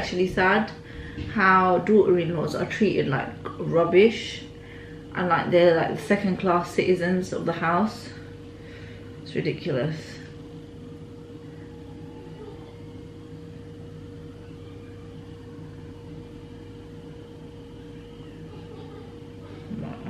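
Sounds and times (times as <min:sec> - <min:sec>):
appliance humming: 0:00.0 - 0:20.0.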